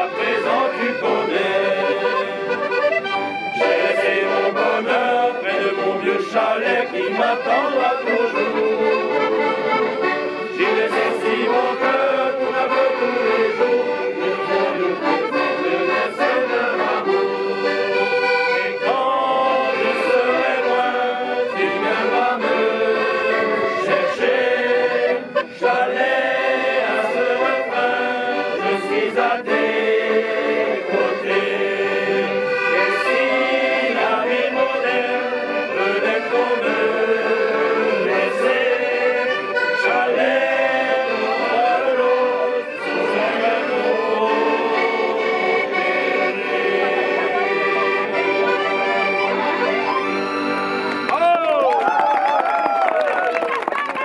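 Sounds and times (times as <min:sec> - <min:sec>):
group singing folk song: 0:00.0 - 0:51.2
accordions playing: 0:00.0 - 0:51.6, 0:53.3 - 0:54.0.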